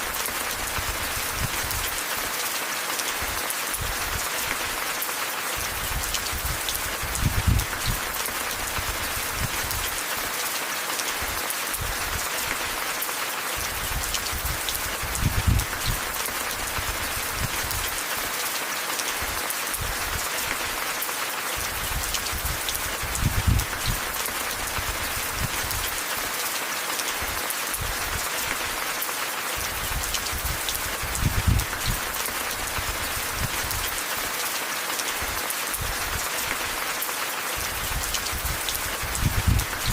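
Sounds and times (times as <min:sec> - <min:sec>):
rain hissing and pattering: 0:00.0 - 0:39.9.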